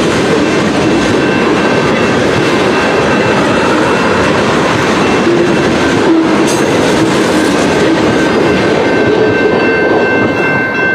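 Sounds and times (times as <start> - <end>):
freight train rumbling past: 0.0 - 10.9.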